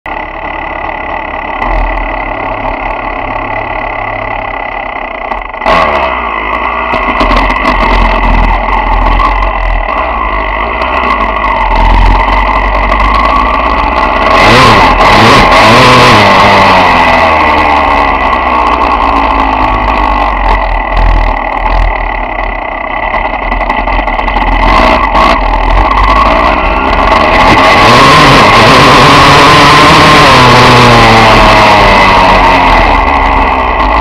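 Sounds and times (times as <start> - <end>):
dirt bike engine revving: 0.1 - 34.0.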